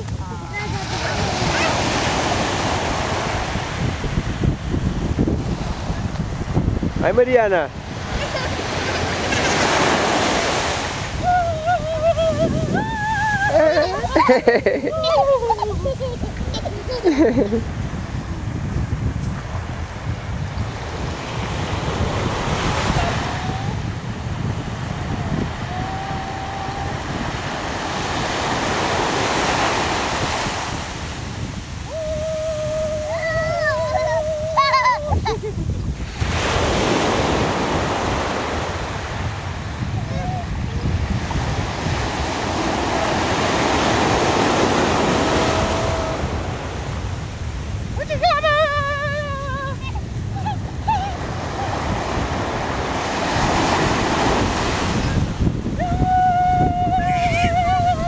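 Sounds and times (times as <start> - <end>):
surf washing up beach: 0.0 - 58.0
wind buffeting microphone: 0.0 - 58.0.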